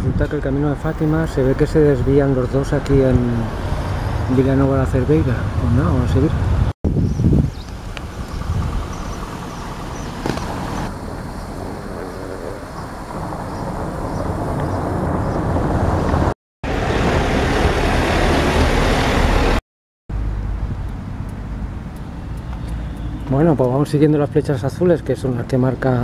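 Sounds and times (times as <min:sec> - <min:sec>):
road traffic rush: 0:00.0 - 0:26.0.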